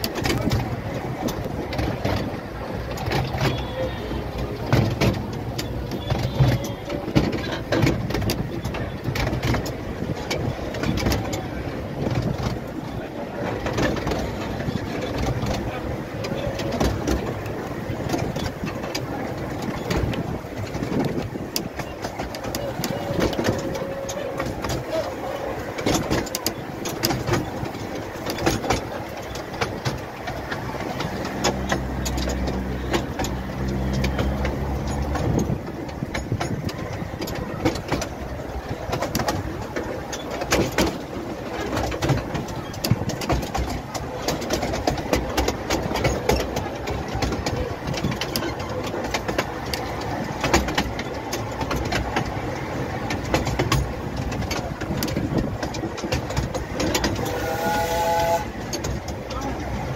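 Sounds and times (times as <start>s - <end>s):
train wheels rattling on track: 0.0s - 59.9s.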